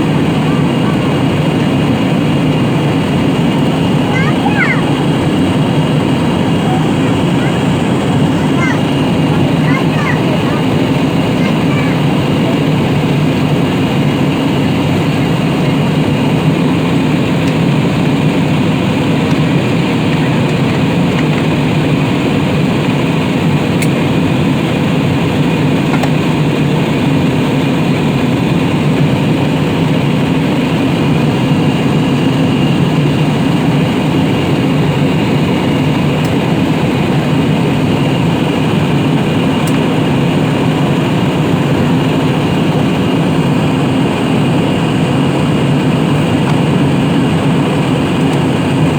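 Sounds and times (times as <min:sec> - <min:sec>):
airliner engine rumble: 0:00.0 - 0:48.9.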